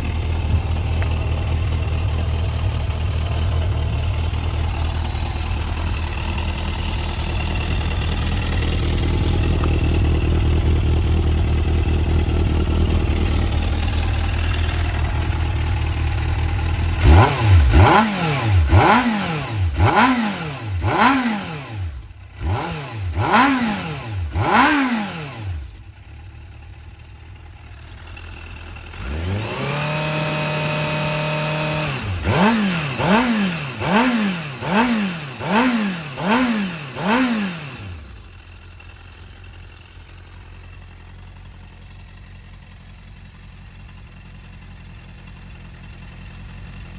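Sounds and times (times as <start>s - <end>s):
motorcycle engine revving and idling: 0.0s - 46.9s.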